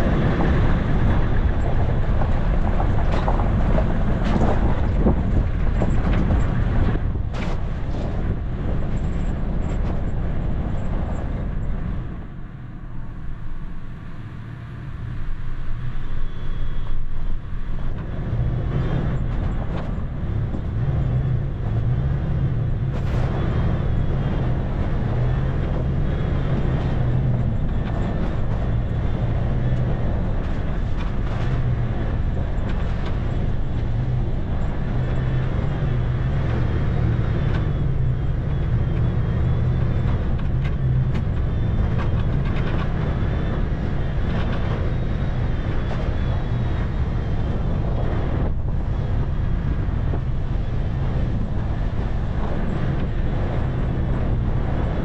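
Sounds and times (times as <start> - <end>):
road noise: 0.0 - 55.0
truck engine at low revs: 0.0 - 55.0.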